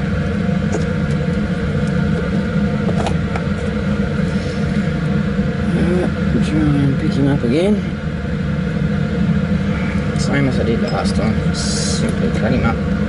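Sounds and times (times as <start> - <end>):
blower fan hum: 0.0 - 13.0.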